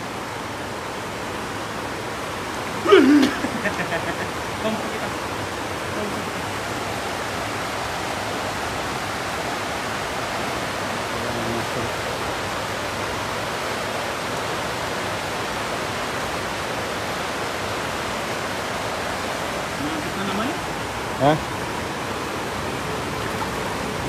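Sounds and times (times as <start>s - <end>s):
river flowing over stones: 0.0s - 24.0s.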